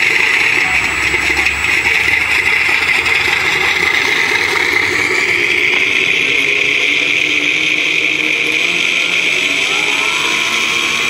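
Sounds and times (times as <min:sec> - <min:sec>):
simulated piston engine through speakers: 0:00.0 - 0:11.0.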